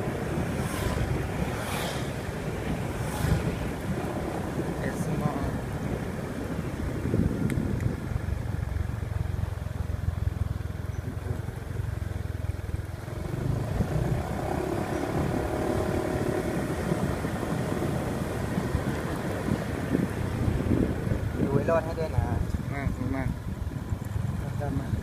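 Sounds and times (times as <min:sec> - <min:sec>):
wind noise on microphone: 0:00.0 - 0:10.1, 0:13.0 - 0:25.0
motorbike engine hum: 0:00.0 - 0:25.0.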